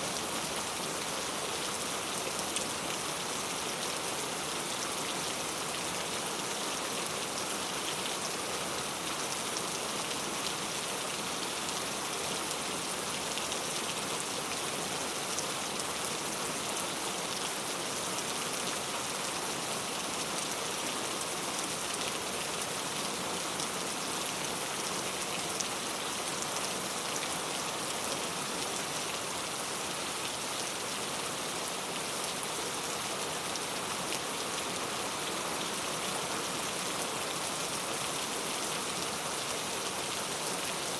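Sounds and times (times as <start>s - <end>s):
heavy rain on street: 0.0s - 40.9s.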